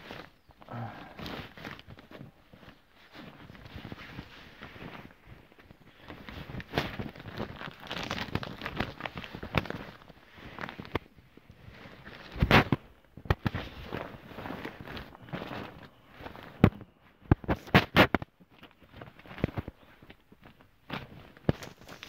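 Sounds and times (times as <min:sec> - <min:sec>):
wrapping paper and bags rustling: 0:00.0 - 0:22.0.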